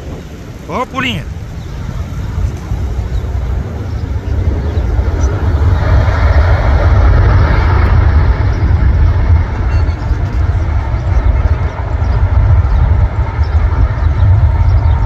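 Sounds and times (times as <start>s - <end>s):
jet engines roaring on landing: 0.0s - 15.0s.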